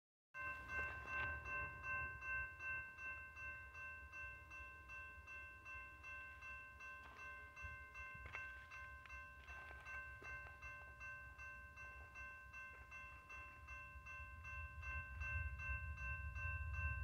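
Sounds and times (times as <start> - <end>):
crossing warning bell ringing: 0.4 - 17.0.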